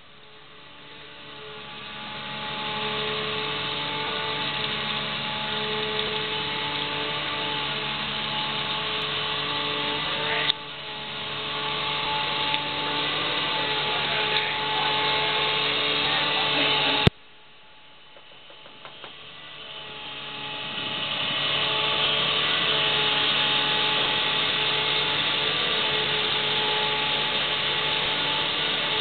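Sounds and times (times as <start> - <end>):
aircraft engine drone in cabin: 0.0 - 17.2, 17.8 - 29.0.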